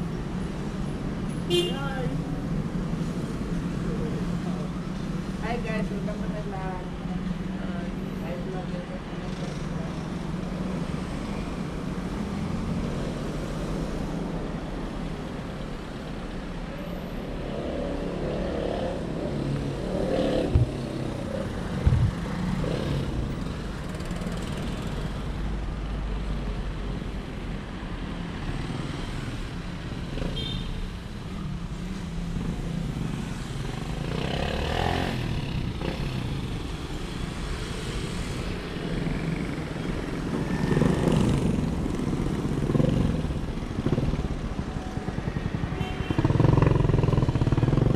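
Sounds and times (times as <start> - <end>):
cars and motorcycles passing: 0.0 - 47.9.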